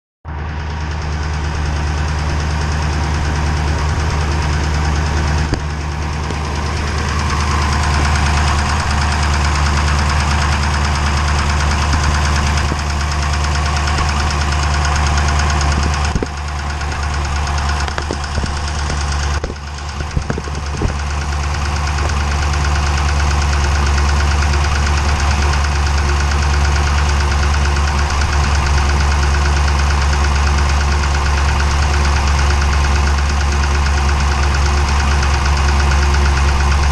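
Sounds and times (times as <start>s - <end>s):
engine running with knock: 0.3s - 36.9s.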